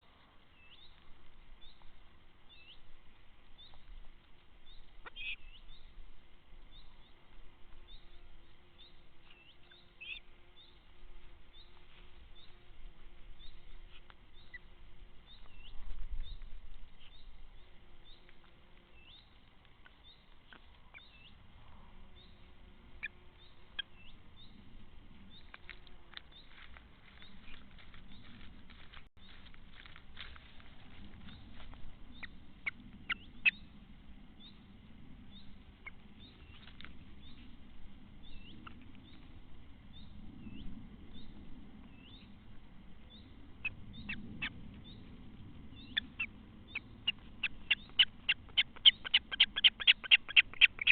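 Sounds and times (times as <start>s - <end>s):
small bird chirping: 0.5s - 2.9s, 3.6s - 6.0s, 6.7s - 12.7s, 13.4s - 21.4s, 22.1s - 28.4s, 31.2s - 33.8s, 34.4s - 37.6s, 38.2s - 42.4s, 43.0s - 50.9s.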